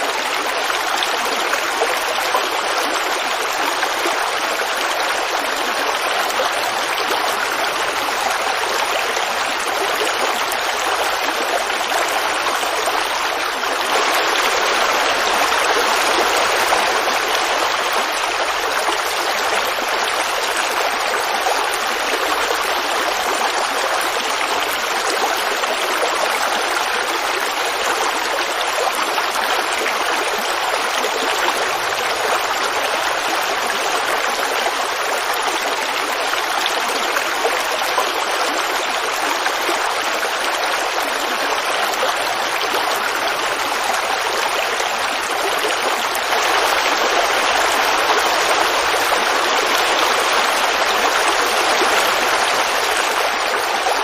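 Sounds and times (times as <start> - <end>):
creek babbling: 0.0 - 54.0.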